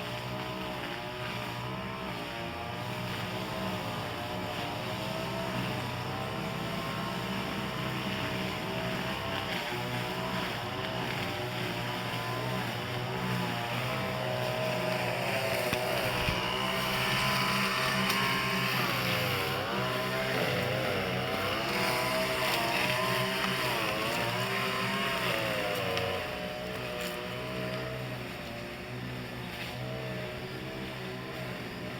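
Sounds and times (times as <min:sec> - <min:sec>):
motor running with wavering pitch: 0:00.0 - 0:31.9.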